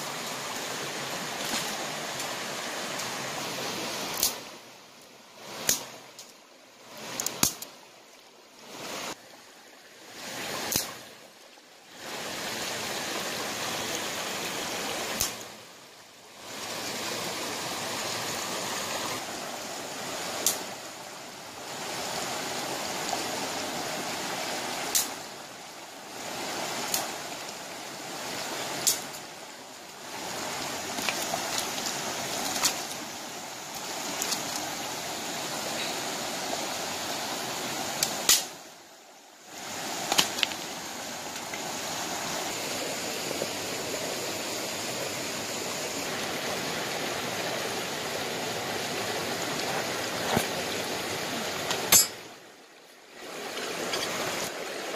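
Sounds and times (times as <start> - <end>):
stream rushing over stones: 0.0 - 54.9.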